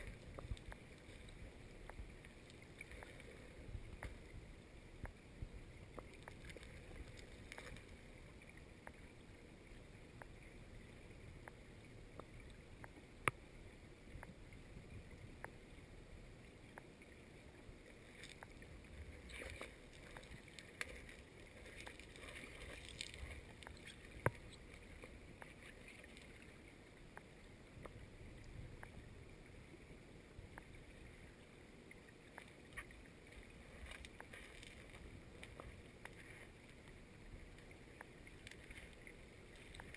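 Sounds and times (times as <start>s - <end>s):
small clicks and ticks: 0.0s - 5.2s, 5.8s - 15.8s, 16.4s - 39.9s
muffled underwater river wash: 0.0s - 39.9s.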